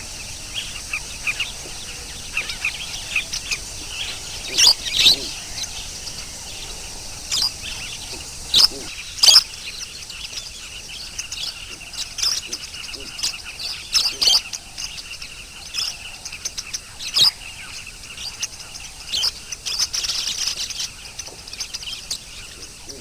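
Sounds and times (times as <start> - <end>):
birds twittering: 0.0 - 23.0
lovebirds chirping: 0.0 - 23.0.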